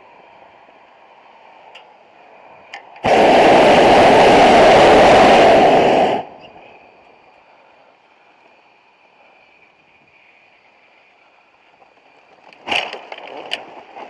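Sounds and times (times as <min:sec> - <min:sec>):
propane burner roaring: 0:00.0 - 0:12.5.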